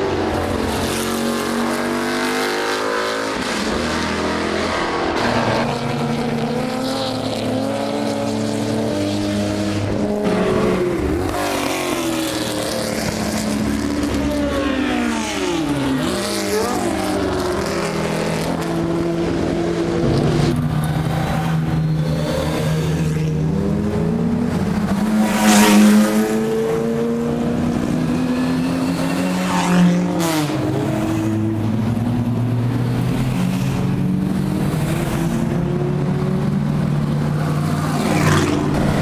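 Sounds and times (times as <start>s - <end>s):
racing car engines accelerating: 0.0s - 39.0s.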